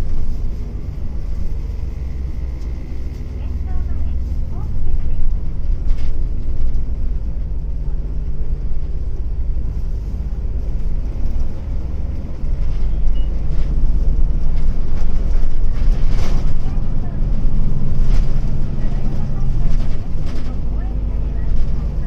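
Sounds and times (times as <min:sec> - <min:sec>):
bus engine rumbling: 0:00.0 - 0:22.0.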